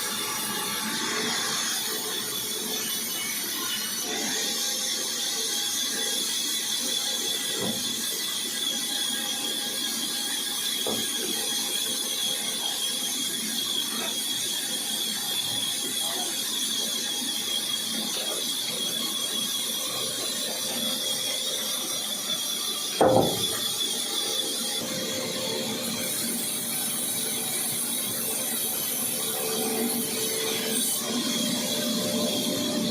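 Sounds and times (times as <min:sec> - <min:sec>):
woodworking machine whining: 0:00.0 - 0:32.9.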